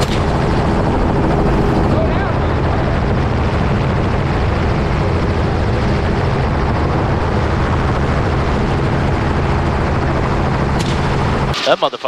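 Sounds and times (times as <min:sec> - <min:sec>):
helicopter rotor and engine noise: 0:00.0 - 0:12.0.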